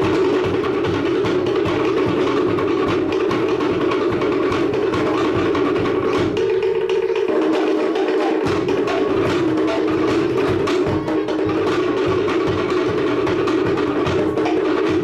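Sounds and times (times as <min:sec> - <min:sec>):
slit-log drums playing fast rhythm: 0:00.0 - 0:15.0.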